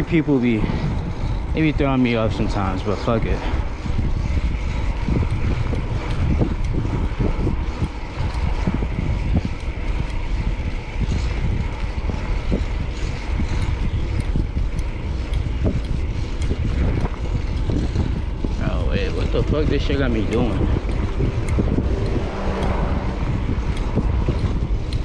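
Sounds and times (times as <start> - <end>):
traffic noise: 0.0 - 25.0
wind rumbling on microphone: 0.0 - 25.0.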